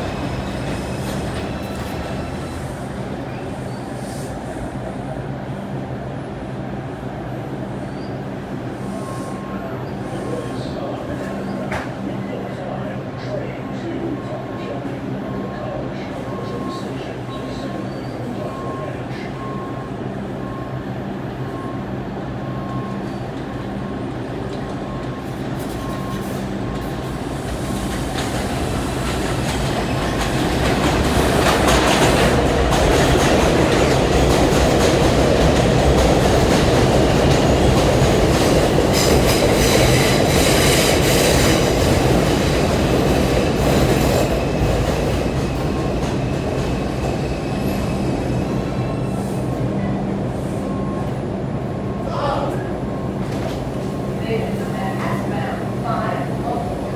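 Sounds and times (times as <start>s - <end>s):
subway train clattering: 0.0s - 56.9s.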